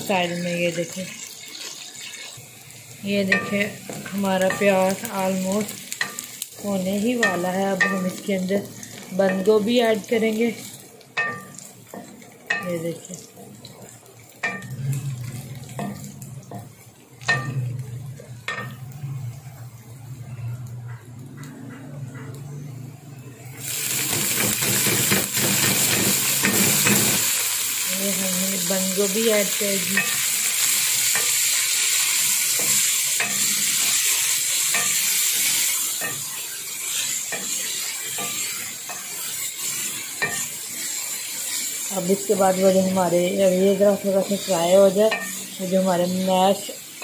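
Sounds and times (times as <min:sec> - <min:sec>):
onions frying in oil: 0:00.0 - 0:21.6, 0:22.2 - 0:47.0.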